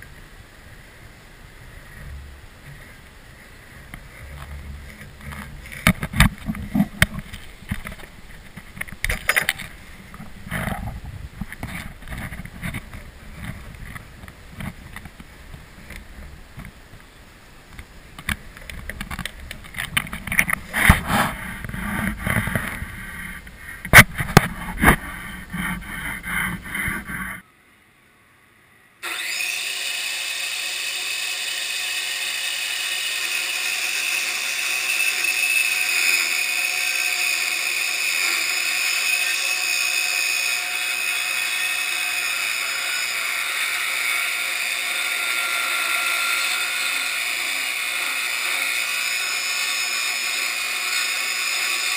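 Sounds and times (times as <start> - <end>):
steady whir with high whine: 0.0 - 51.9.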